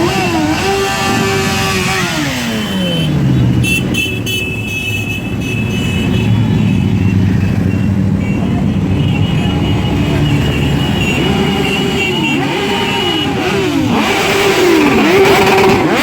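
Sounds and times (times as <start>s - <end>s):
horn toots: 0.0s - 16.0s
motorcycle engines rumbling: 0.0s - 16.0s.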